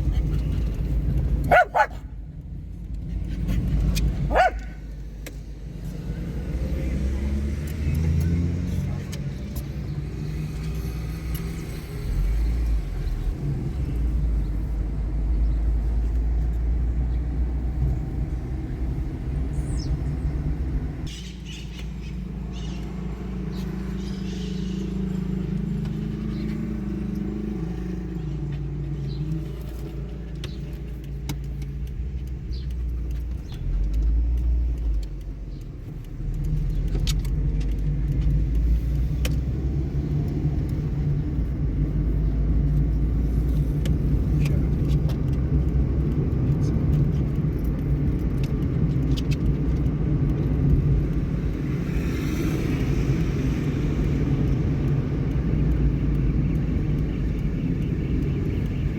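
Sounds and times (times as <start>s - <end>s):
motor vehicle engine rumble: 0.0s - 58.9s.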